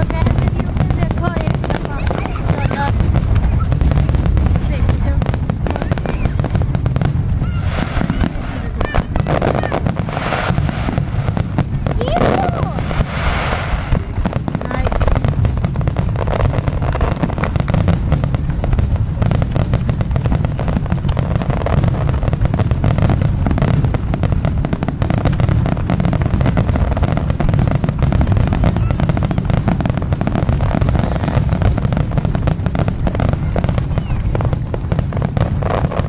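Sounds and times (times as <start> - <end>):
fireworks crackling and popping: 0.0 - 36.0
low rumble of booms: 0.0 - 36.0.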